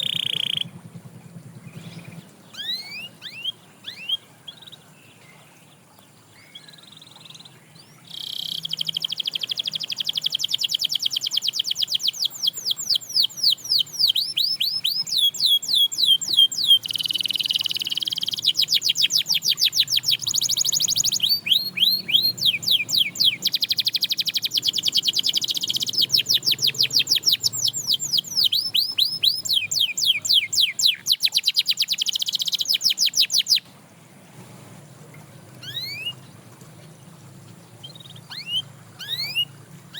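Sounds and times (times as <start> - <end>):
canary singing trills: 0.0 - 33.8, 35.5 - 39.9.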